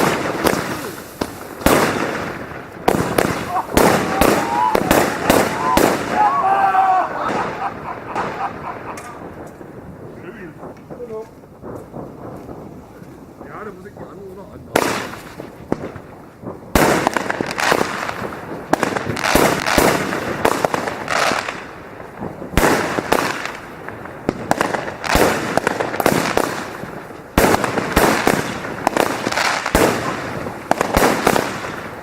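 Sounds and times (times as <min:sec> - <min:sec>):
fireworks bangs: 0:00.0 - 0:32.0
hissing and crackling bursts: 0:00.0 - 0:32.0.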